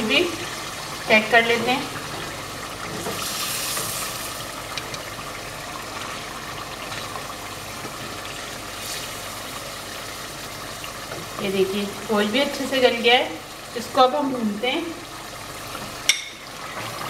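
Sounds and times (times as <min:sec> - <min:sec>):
curry sizzling in a pot: 0:00.0 - 0:17.0.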